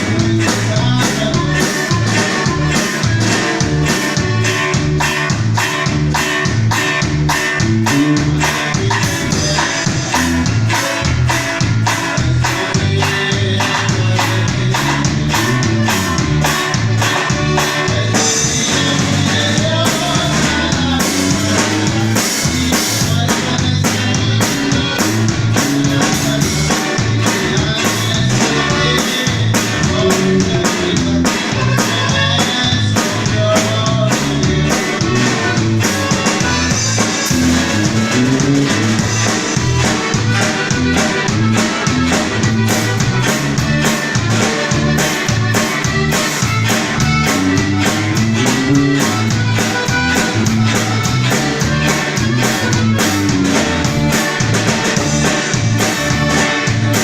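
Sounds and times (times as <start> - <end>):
loud music with drums and bass: 0.0 - 57.0.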